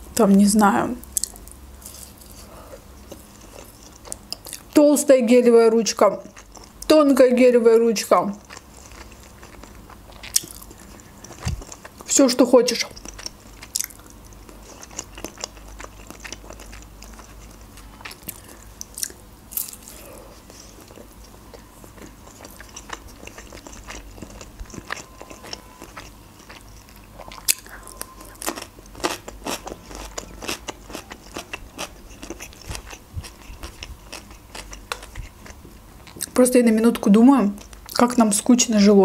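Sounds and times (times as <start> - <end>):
person chewing food: 1.0 - 4.8, 6.2 - 6.9, 8.4 - 12.1, 12.8 - 36.4.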